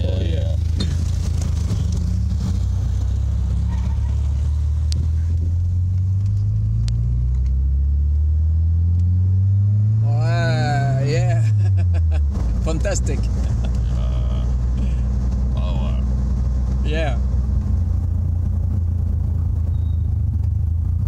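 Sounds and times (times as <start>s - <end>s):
car engine accelerating: 0.0s - 21.0s
road and tyre noise: 0.0s - 21.0s.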